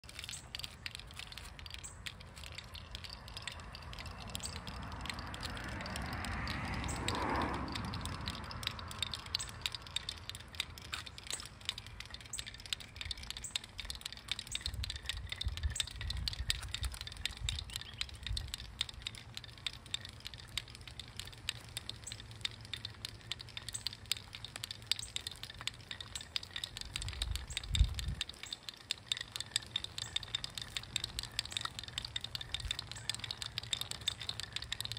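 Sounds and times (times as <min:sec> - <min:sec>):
hammers knocking in small clicks: 0:00.0 - 0:34.9
small wheels rolling over asphalt: 0:00.0 - 0:34.9.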